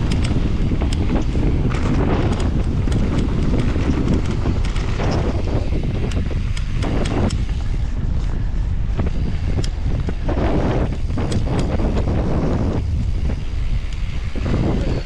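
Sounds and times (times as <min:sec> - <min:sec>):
bike clicks and rattles: 0:00.0 - 0:15.0
bike rumbling on dirt trail: 0:00.0 - 0:15.0
wind buffeting microphone: 0:00.0 - 0:15.0.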